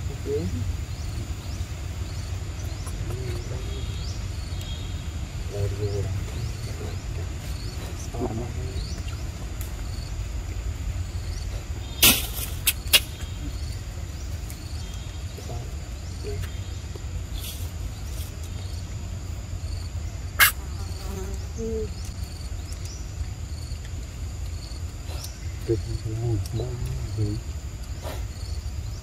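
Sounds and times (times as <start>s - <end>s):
low steady rumble: 0.0s - 20.4s, 21.4s - 29.0s
insects shrilling: 0.0s - 29.0s.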